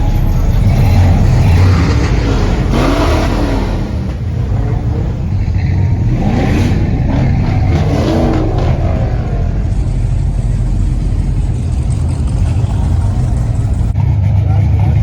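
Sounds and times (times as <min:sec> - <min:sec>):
car engine revving: 0:00.1 - 0:15.0.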